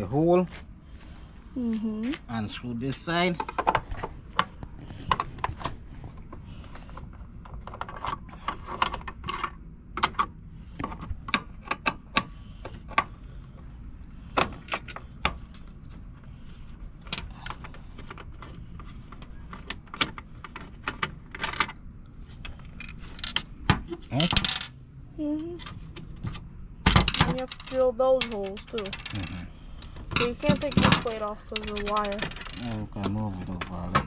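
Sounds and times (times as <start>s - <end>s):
low steady rumble: 0.0s - 34.0s.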